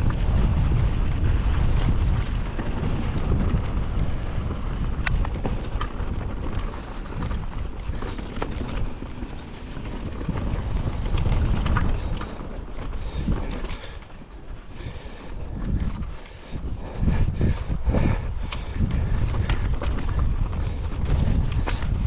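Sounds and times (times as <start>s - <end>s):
bike clicks and rattles: 0.0s - 22.0s
bike tyres rolling on dirt: 0.0s - 22.0s
wind on microphone: 0.0s - 22.0s.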